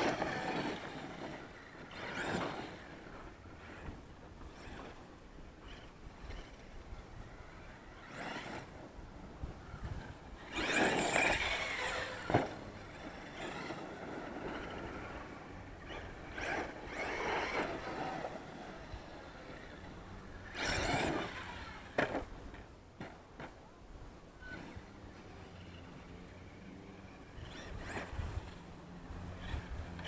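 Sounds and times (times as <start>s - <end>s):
rc truck drivetrain surging: 0.0s - 23.7s, 24.3s - 30.0s.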